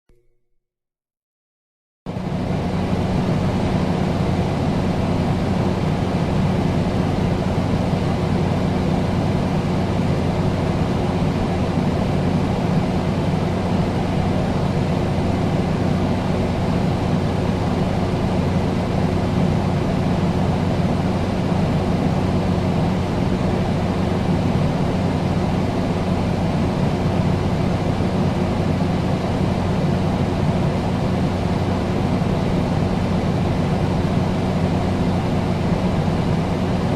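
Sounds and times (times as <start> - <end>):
air conditioner fan rushing: 2.1 - 36.9.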